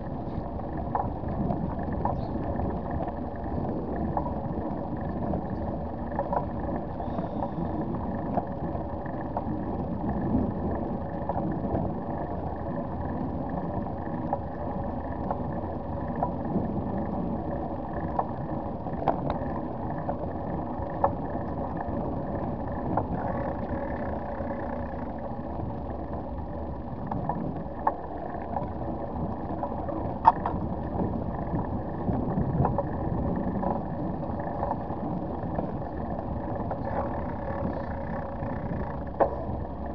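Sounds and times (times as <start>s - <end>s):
bicycle tyres rumbling on bricks: 0.0s - 39.9s
constant hum: 0.0s - 39.9s
sharp clicks over bumps: 0.1s - 39.9s.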